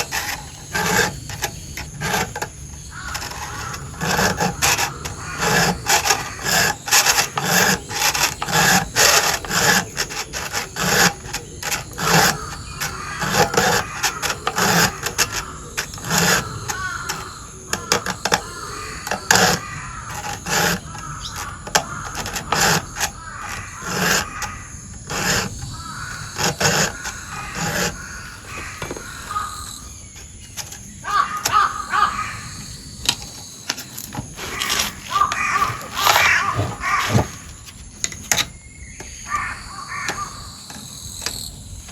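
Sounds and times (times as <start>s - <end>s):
file rasping on chainsaw chain: 0.0s - 38.5s.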